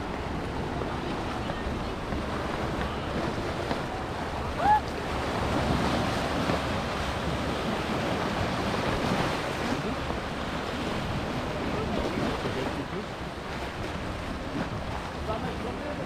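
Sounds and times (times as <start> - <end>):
small waves breaking on beach: 0.0 - 16.0
wind buffeting microphone: 0.0 - 16.0.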